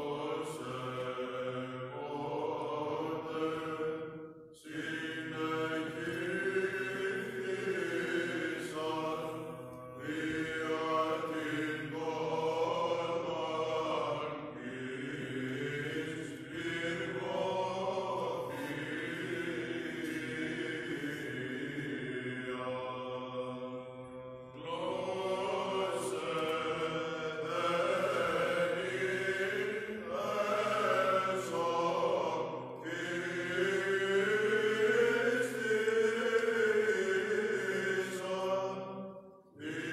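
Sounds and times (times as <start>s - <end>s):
men chanting a hymn: 0.0s - 39.9s.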